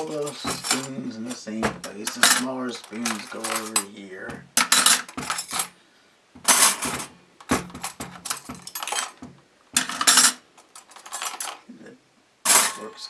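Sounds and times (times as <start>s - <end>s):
silverware clattering and clinking: 0.0s - 5.8s, 6.4s - 11.7s, 12.5s - 13.0s.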